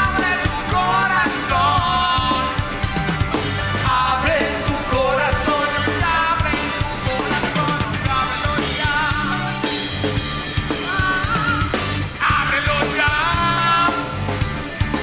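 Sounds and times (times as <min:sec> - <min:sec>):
bass drum and snare beat: 0:00.0 - 0:15.0
rock band playing: 0:00.0 - 0:15.0.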